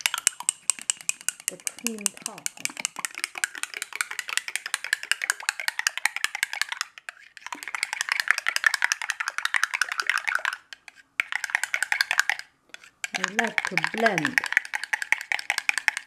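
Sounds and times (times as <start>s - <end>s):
utensil clicking against a crock: 0.0s - 16.0s.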